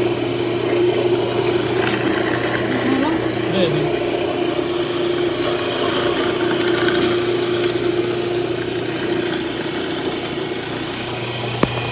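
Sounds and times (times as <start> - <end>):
electric grinder humming: 0.0 - 11.9.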